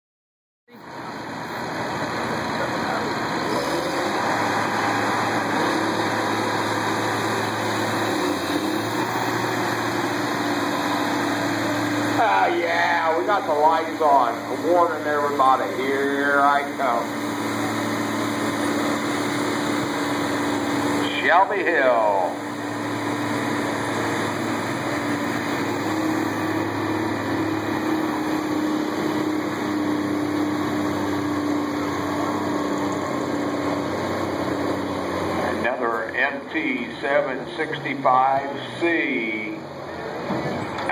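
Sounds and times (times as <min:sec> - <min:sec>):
tractor diesel engine under load: 0:00.7 - 0:40.9.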